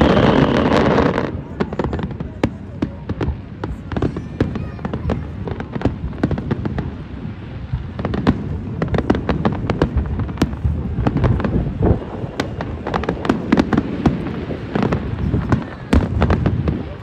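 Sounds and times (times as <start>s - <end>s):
firework cracks and crackles: 0.0s - 17.0s.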